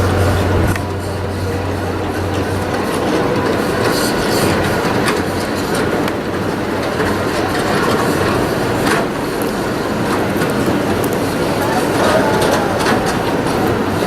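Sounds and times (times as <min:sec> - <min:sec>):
tram car rumbling past: 0:00.0 - 0:14.0.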